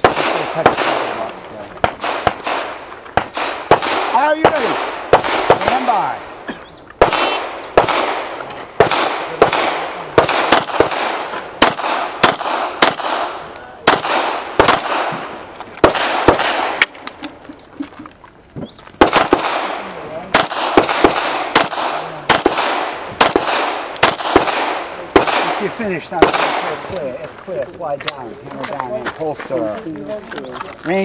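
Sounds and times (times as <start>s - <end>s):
pistol shots with echo: 0.0s - 17.2s, 19.0s - 27.1s.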